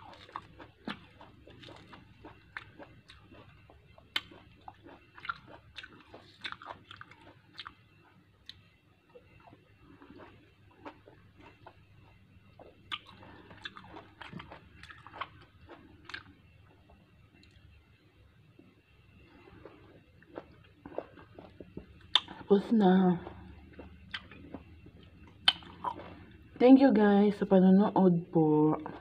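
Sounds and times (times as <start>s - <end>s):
person chewing orange: 0.0s - 17.6s, 19.2s - 22.5s, 23.2s - 26.5s.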